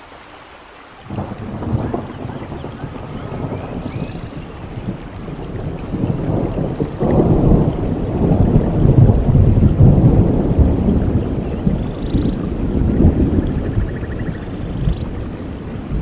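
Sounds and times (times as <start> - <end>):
rain falling: 0.0 - 16.0
thunder rumbling: 1.0 - 16.0.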